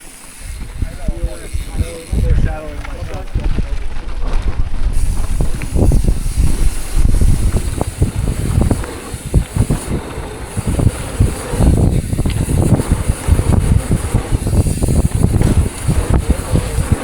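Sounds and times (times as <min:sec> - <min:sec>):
bike tyres rumbling on dirt: 0:00.0 - 0:17.0
wind buffeting microphone: 0:00.0 - 0:17.0
bike frame rattling and knocking: 0:00.2 - 0:17.0.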